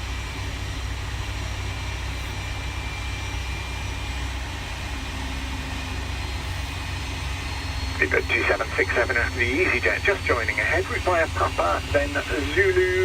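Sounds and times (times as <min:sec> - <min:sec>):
tug engine low hum: 0:00.0 - 0:13.0.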